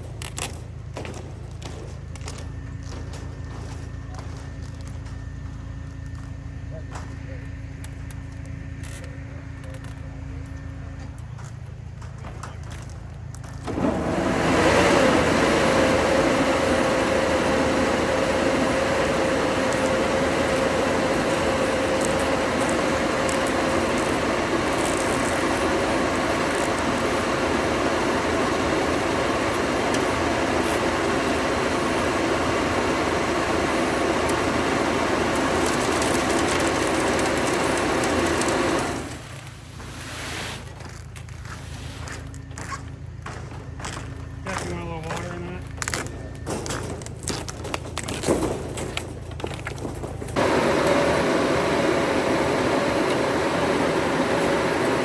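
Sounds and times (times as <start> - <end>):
machine motor humming: 1.0 - 39.5, 49.4 - 55.0.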